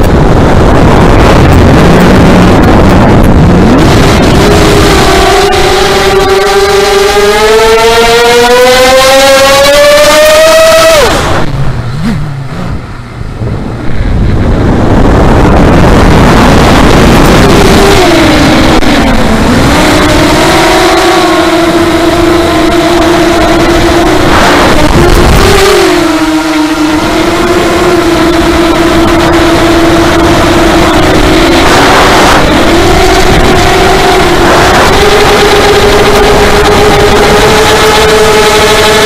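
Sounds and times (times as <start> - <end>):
quadcopter motors whining: 0.0 - 39.0
wind rush: 0.0 - 39.0.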